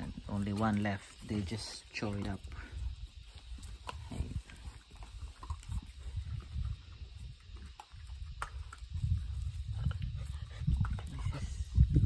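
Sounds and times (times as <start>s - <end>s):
puppies crunching kibble: 0.0s - 12.0s.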